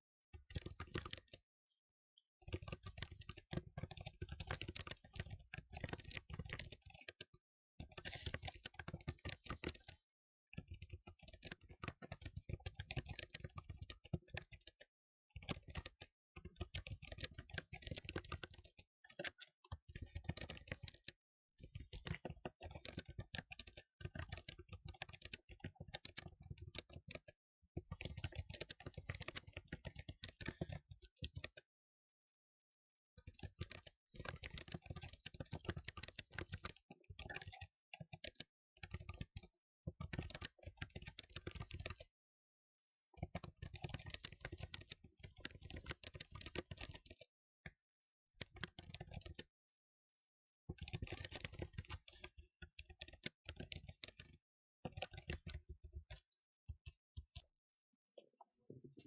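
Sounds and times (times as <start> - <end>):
fast typing on keyboard: 0.4 - 1.4, 2.4 - 10.0, 10.6 - 31.7, 33.2 - 42.1, 43.2 - 47.8, 48.4 - 49.5, 50.7 - 57.4.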